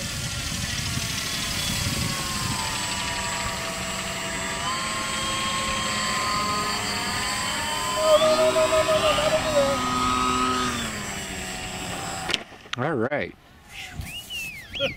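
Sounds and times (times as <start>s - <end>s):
gyrocopter engine droning: 0.0s - 12.8s.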